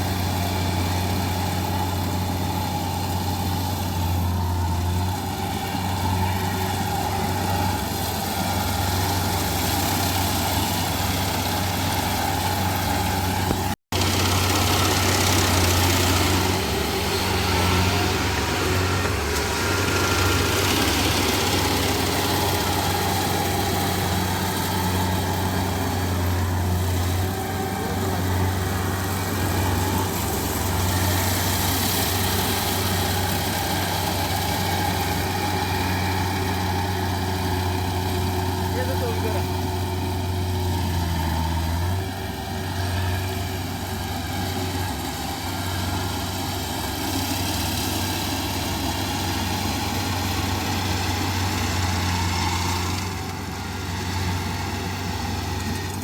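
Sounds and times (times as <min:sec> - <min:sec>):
harvester engine humming: 0:00.0 - 0:56.0.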